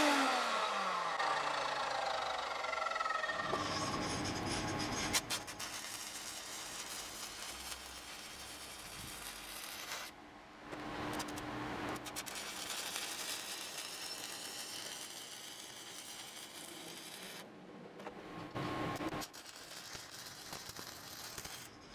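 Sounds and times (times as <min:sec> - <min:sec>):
welding arc crackling and sizzling: 0:01.3 - 0:21.9.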